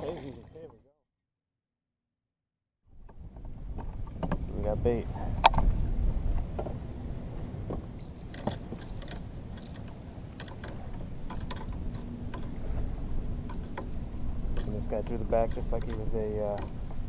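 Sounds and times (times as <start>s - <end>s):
low rumble: 2.9s - 17.0s.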